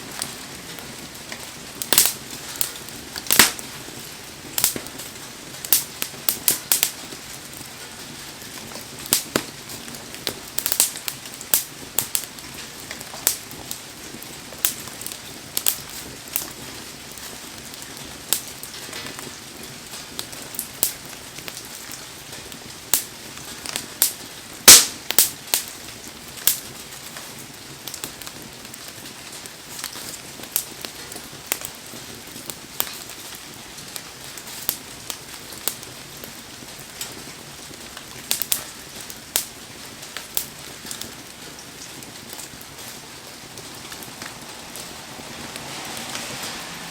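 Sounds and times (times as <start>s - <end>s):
campfire crackling and popping: 0.0s - 46.9s
heavy rain hiss: 0.0s - 46.9s.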